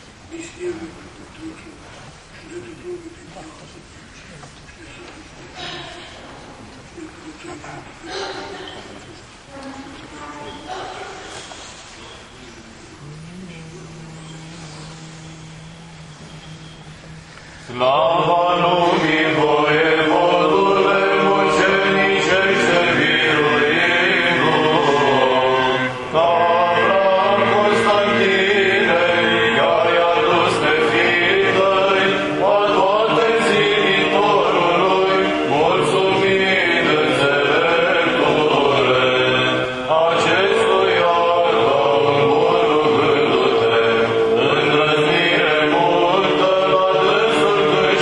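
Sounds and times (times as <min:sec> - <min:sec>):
liturgical chant: 0:07.5 - 0:48.0.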